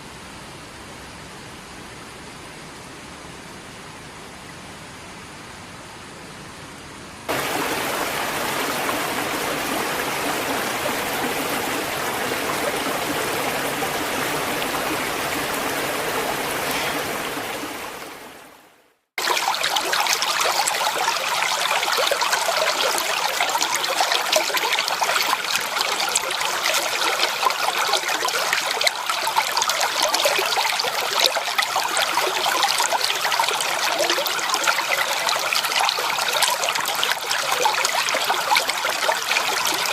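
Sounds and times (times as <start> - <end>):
bubbly trickling stream: 7.3 - 18.6, 19.2 - 39.9
stream water trickling: 7.3 - 39.9.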